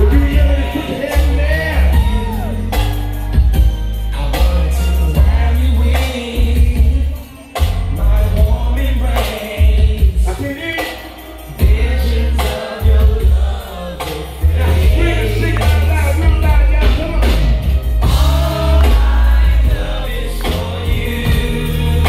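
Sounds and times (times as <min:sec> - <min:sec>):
r and b song over sound system: 0:00.0 - 0:22.0.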